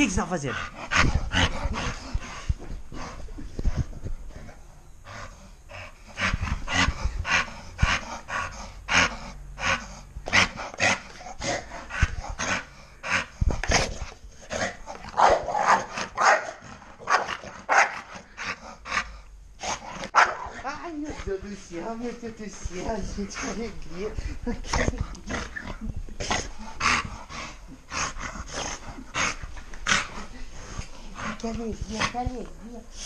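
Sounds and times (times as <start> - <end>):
dog growling and huffing: 0.5 - 21.3, 22.0 - 32.3.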